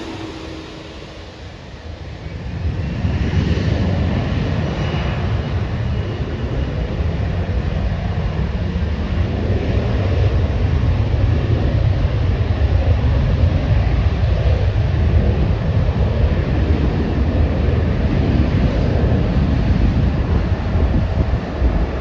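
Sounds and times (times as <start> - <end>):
faint engine whine: 0.0 - 22.0
jet airliner engines rumbling: 0.0 - 22.0.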